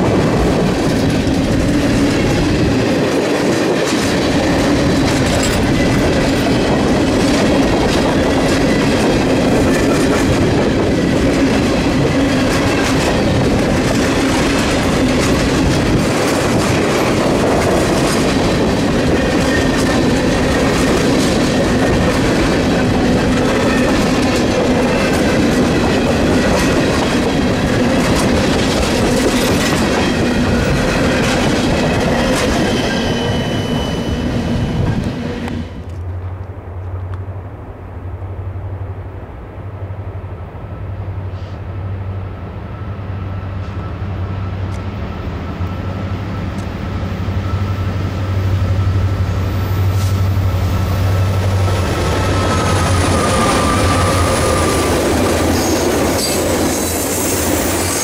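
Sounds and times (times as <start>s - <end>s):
clickety-clack over rail joints: 0.0s - 37.2s, 43.6s - 58.0s
train wheels rumbling on rail: 0.0s - 58.0s.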